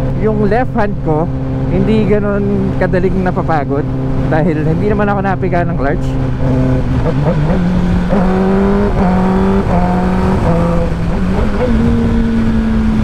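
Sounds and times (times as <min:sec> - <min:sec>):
motorcycle engine accelerating: 0:00.0 - 0:13.0
rushing wind: 0:00.0 - 0:13.0.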